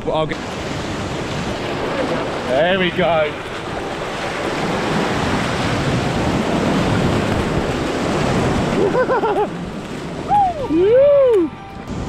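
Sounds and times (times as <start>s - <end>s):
ocean surf breaking on sand: 0.4s - 12.0s.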